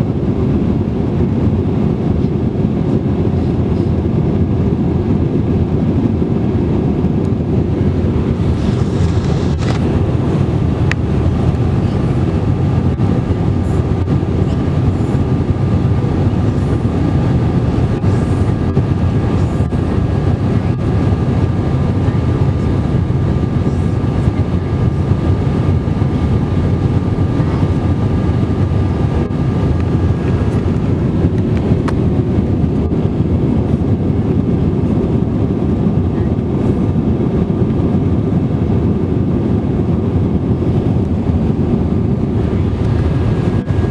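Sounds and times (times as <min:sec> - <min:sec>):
aircraft cabin engine roar: 0:00.0 - 0:43.9.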